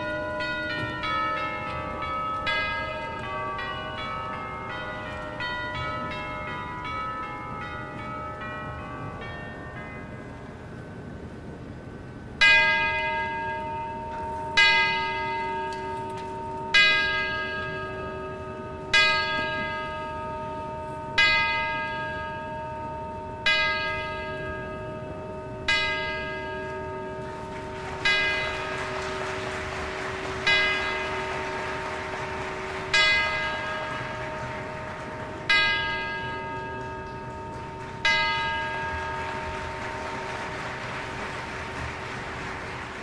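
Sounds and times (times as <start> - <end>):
large bell tolling: 0.0 - 11.4, 12.4 - 42.8.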